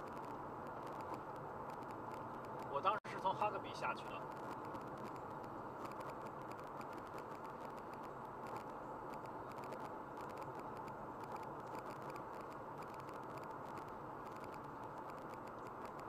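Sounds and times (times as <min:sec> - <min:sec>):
car road and engine noise: 0:00.0 - 0:16.0
faint irregular ticking: 0:00.0 - 0:16.0.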